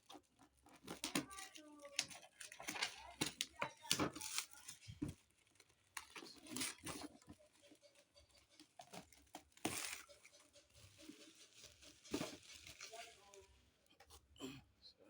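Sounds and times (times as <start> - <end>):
packaging rustling and crinkling: 0.0 - 13.7.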